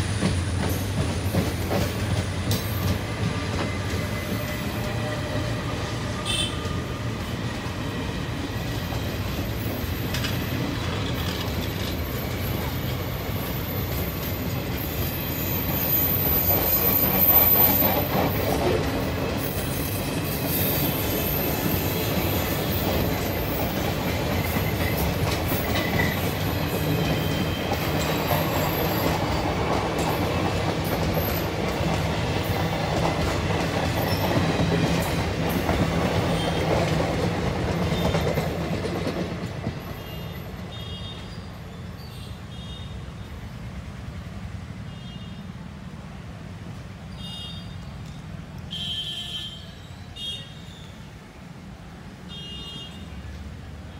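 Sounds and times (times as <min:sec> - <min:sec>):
train coaches rolling past: 0:00.0 - 0:53.9.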